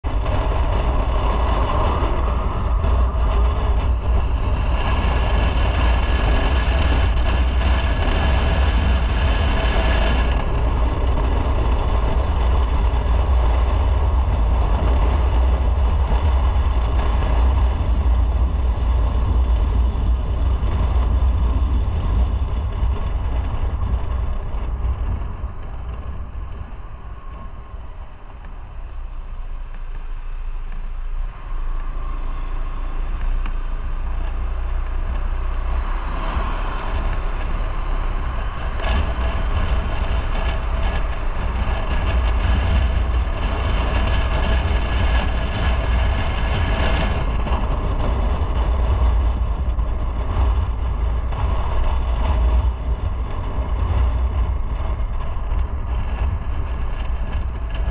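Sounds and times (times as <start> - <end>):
motorcycle engine: 0.0 - 57.9
road noise: 0.0 - 57.9
wind noise: 0.0 - 57.9.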